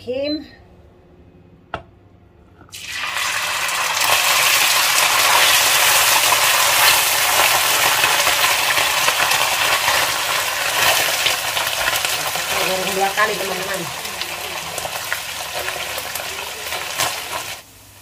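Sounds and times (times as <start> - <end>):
fish sizzling in hot oil: 2.7 - 18.0.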